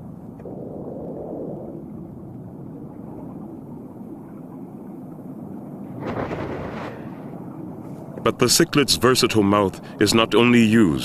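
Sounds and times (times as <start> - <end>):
low underwater rumbling wash: 0.0 - 11.0.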